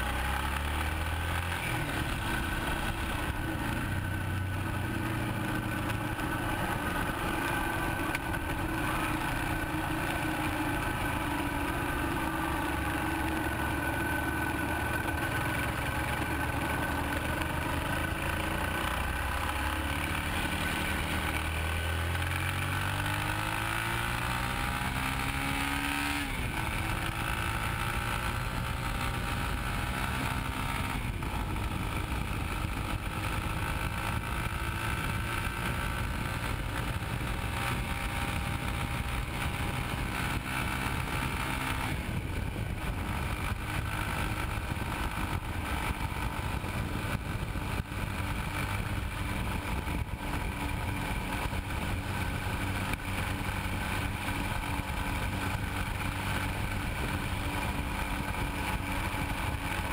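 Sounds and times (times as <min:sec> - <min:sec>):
motorcycle engine running: 0:00.0 - 0:59.9
tyre and road noise: 0:00.0 - 0:59.9.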